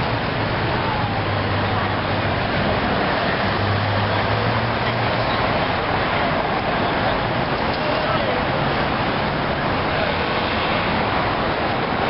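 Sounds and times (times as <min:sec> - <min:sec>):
city traffic noise: 0:00.0 - 0:12.0
vehicle engine hum: 0:00.0 - 0:12.0.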